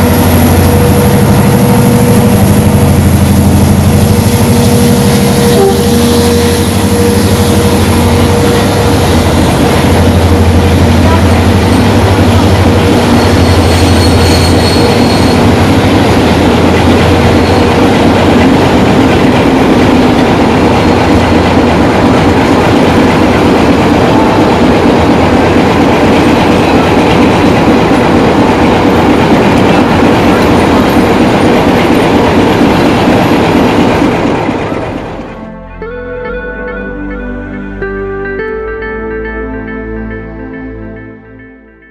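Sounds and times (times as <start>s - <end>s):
train wheels rumbling on rails: 0.0s - 35.4s.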